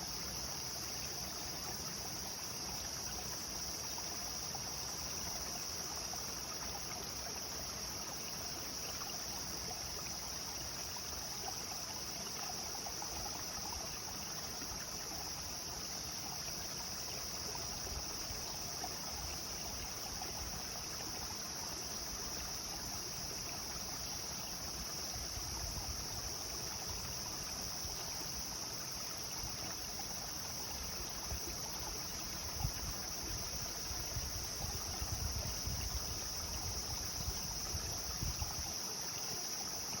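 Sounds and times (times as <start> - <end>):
insect drone: 0.0 - 40.0
river water flowing over stones: 0.1 - 40.0.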